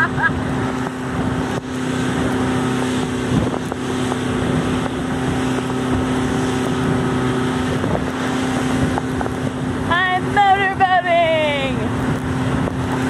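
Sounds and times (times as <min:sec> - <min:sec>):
motorboat engine droning: 0:00.0 - 0:13.0
wind buffeting microphone: 0:00.0 - 0:13.0.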